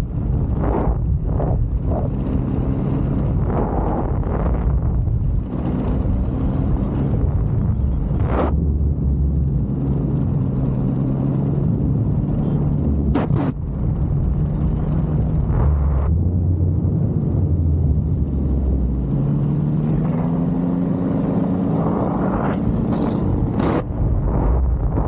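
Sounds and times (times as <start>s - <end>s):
paramotor engine droning: 0.0s - 25.0s
wind on microphone: 0.0s - 25.0s.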